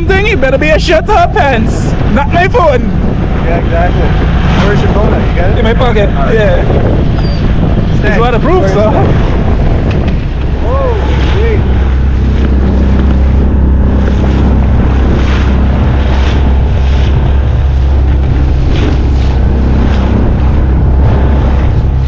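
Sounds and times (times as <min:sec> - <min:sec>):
boat motor rumbling: 0:00.0 - 0:22.0
bow slapping waves: 0:00.0 - 0:22.0
wind on microphone: 0:00.0 - 0:22.0.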